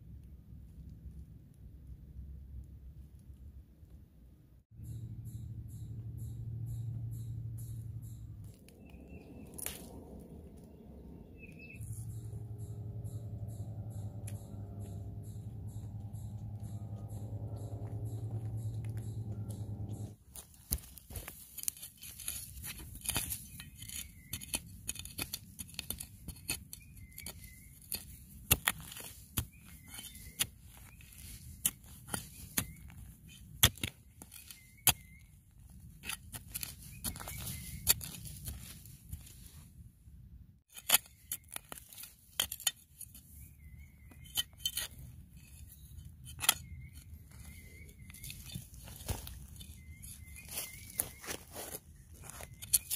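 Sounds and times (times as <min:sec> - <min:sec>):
dry leaves and twigs crackling: 0:07.6 - 0:39.7, 0:40.7 - 0:52.9.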